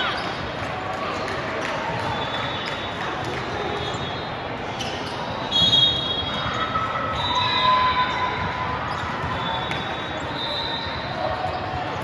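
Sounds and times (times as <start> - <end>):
crowd hubbub in gymnasium: 0.0 - 12.0.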